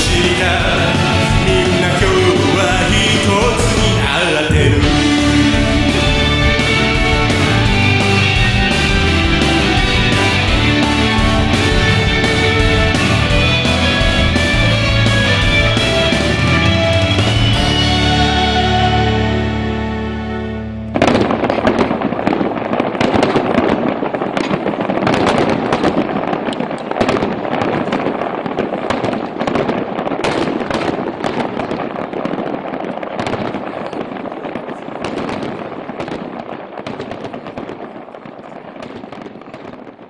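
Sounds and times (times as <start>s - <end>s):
fireworks popping and crackling: 0.0s - 18.1s, 20.9s - 40.0s.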